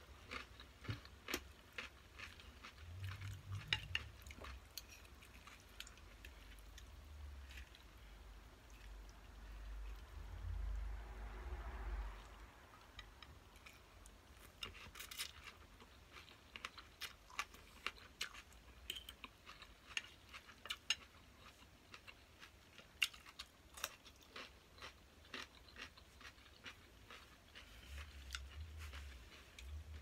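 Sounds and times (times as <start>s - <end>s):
crisp crunching and chewing: 0.0s - 10.0s, 14.4s - 30.0s.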